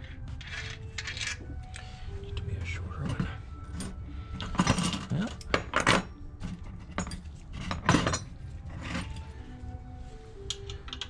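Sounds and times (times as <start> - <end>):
metal nuts and washers clinking: 0.3 - 1.5, 2.2 - 9.4, 10.4 - 11.0.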